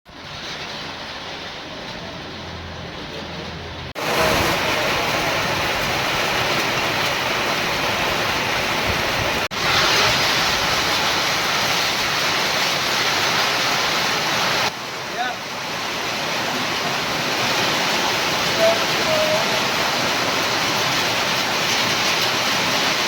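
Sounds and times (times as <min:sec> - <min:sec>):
heavy rain falling: 0:00.1 - 0:23.0.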